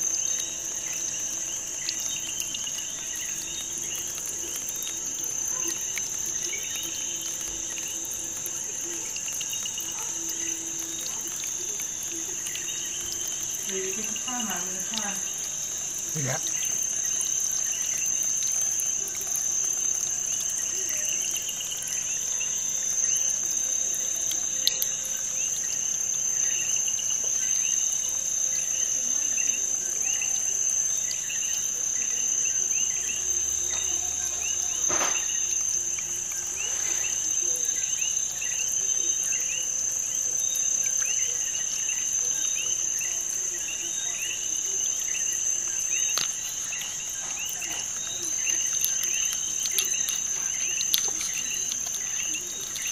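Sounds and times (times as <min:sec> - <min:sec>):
insect-like chirping: 0:00.0 - 0:52.9.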